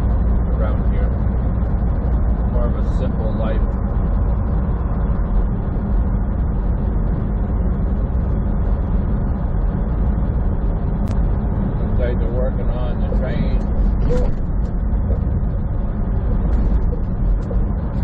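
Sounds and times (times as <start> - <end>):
truck engine drone: 0.0 - 18.0.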